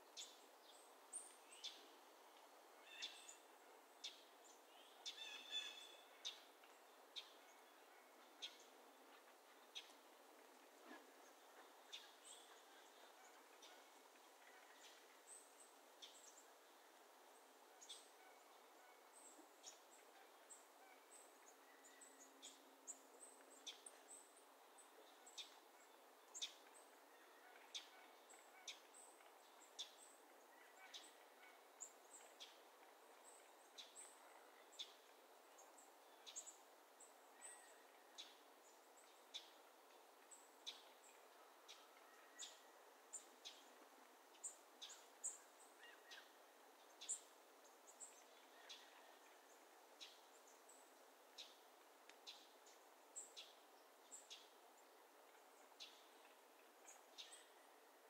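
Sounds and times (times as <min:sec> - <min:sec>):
soft open-air hiss: 0:00.0 - 0:58.0.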